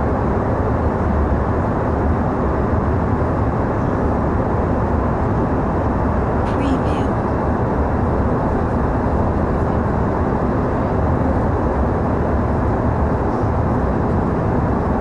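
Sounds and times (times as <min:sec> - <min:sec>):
airliner cabin engine and airflow rush: 0:00.0 - 0:15.0.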